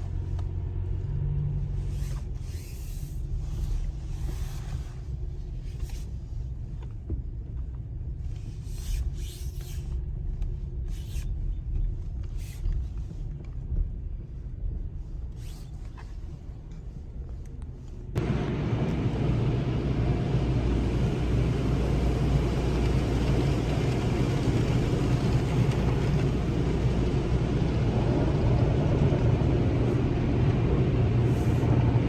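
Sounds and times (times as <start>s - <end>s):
vehicle road rumble: 0.0s - 32.0s.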